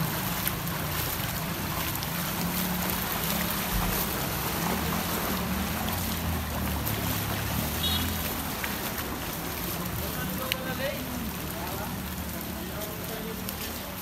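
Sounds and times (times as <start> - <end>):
water sloshing from wading: 0.0 - 14.0.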